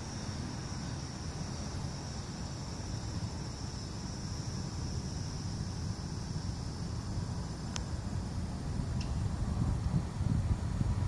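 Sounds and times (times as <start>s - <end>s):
high-pitched insect chorus: 0.0s - 11.0s
low steady rumble: 0.0s - 11.0s.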